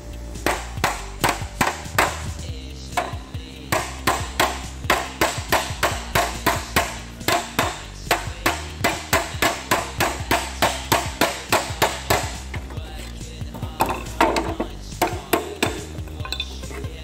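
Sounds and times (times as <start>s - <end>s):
hammer striking metal panel: 0.4s - 2.3s, 3.0s - 12.8s, 13.6s - 16.4s.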